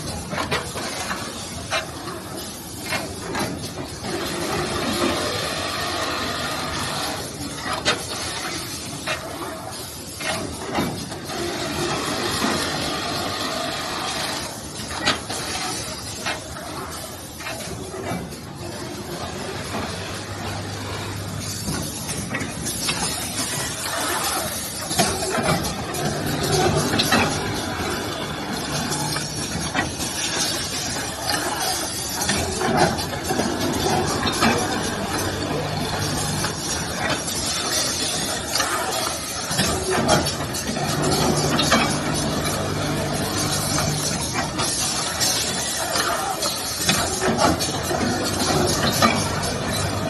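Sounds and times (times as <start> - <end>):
sewing machine whirring: 9.9 - 50.0.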